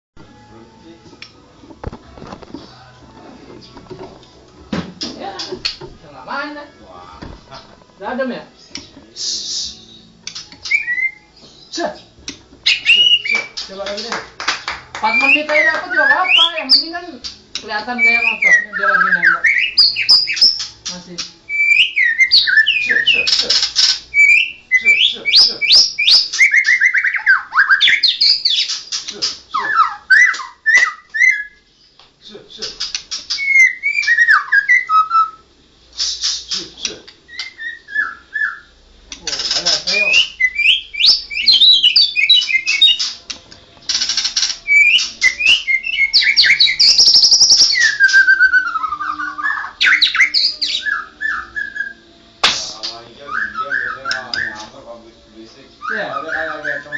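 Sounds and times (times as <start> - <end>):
songbird singing: 5.1 - 14.2, 15.0 - 32.0, 32.6 - 56.9.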